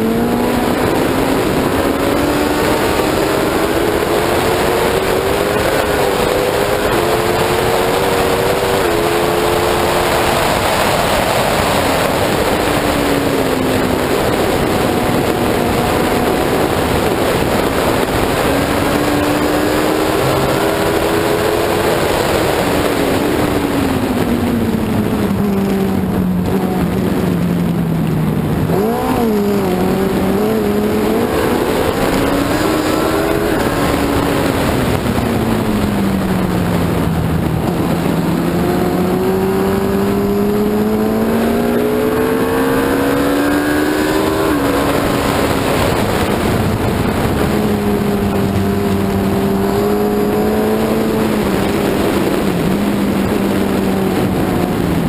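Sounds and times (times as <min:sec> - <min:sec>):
racing engine running hard: 0:00.0 - 0:55.0
wind and road noise: 0:00.0 - 0:55.0.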